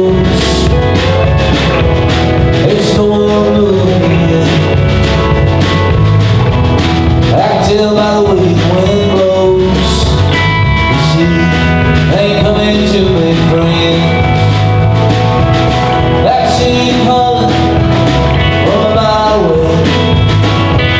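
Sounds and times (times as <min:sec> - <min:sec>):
live country-rock band: 0:00.0 - 0:20.9.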